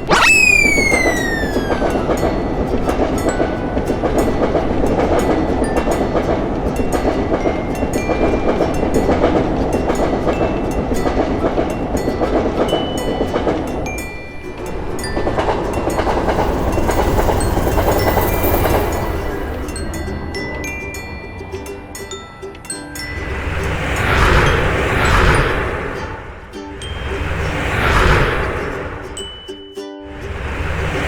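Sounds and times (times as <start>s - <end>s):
train wheels rumbling on rails: 1.9s - 29.4s, 30.1s - 31.0s.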